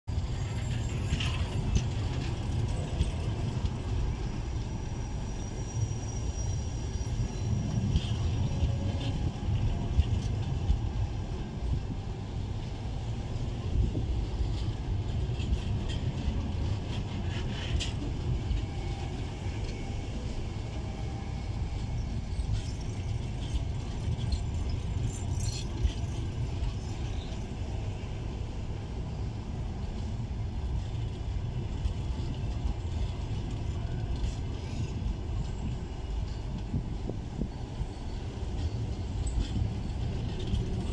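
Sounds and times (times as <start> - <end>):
train wheels rumbling on rails: 0.1 - 40.9.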